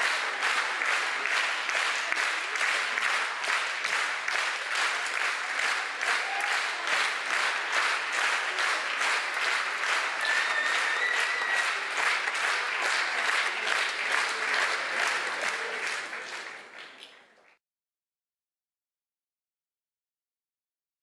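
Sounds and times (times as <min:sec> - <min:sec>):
audience clapping in time: 0:00.0 - 0:17.6.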